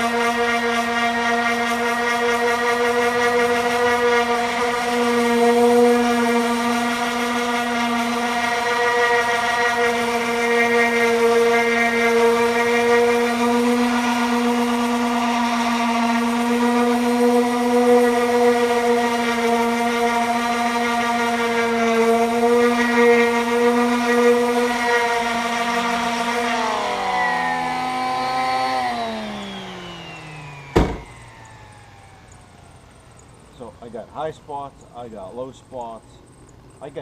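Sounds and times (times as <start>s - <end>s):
power tool motor whining: 0.0s - 34.2s.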